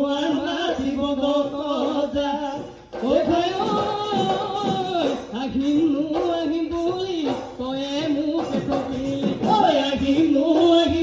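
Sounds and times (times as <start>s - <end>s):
drum beats: 0.0s - 11.0s.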